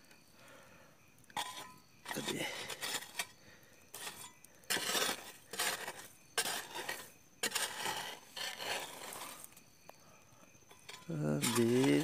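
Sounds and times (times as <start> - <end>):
metal hoe scraping ash and earth: 1.2 - 9.7, 10.6 - 12.0.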